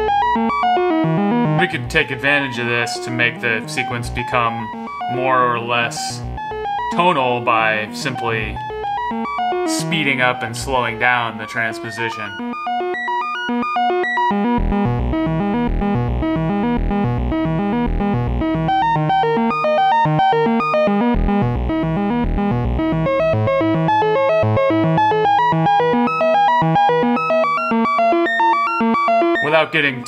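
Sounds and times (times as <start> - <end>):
synthesizer note sequence: 0.0 - 30.0.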